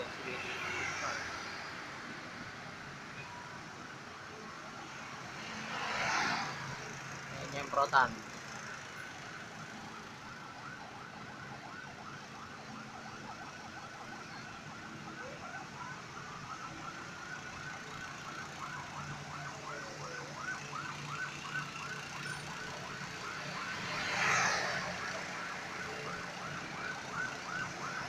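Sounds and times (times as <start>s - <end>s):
truck engines running: 1.2s - 28.0s.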